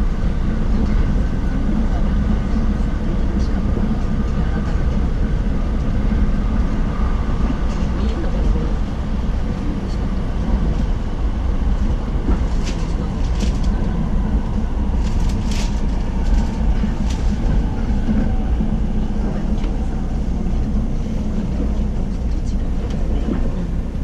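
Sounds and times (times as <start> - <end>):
train running rumble: 0.0 - 24.0.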